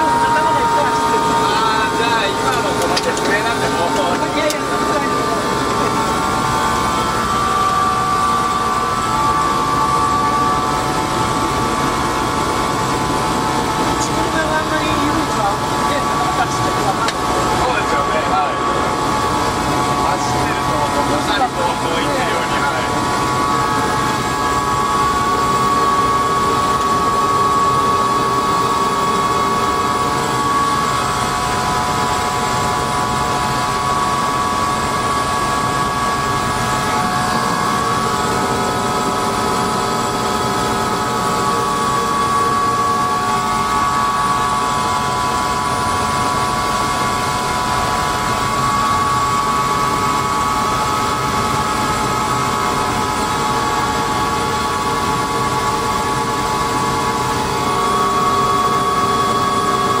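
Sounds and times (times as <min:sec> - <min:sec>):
helicopter engine and rotor: 0:00.0 - 1:00.0
high turbine whine: 0:00.0 - 1:00.0.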